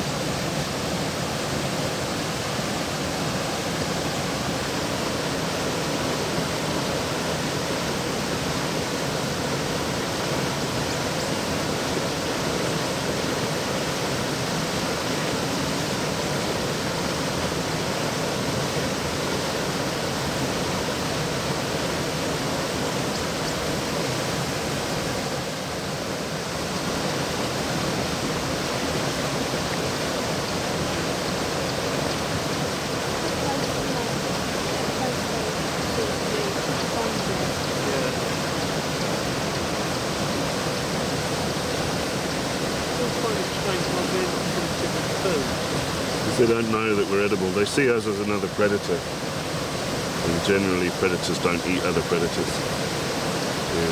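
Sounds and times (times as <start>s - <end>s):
river water rushing over a weir: 0.0s - 53.9s.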